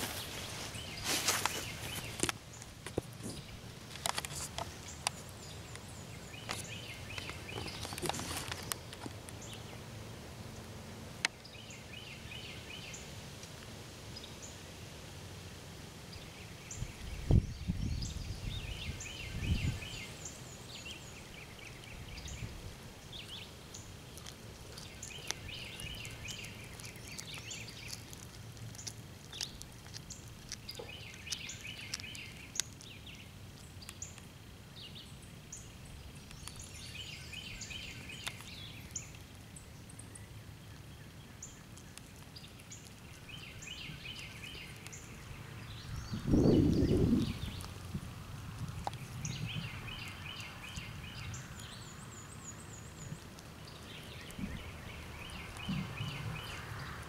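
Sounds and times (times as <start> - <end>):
birds chirping: 0.0 - 9.9, 11.2 - 13.1, 16.1 - 57.0.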